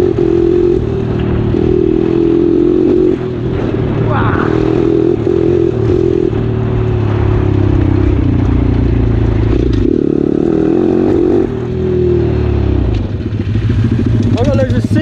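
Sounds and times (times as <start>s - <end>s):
motorbike engine under throttle: 0.0s - 15.0s.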